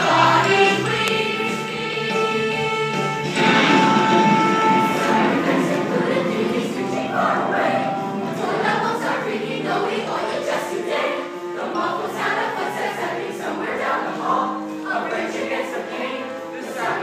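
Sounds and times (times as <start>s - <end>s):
ensemble singing in chorus: 0.0s - 17.0s
musical accompaniment: 0.0s - 17.0s.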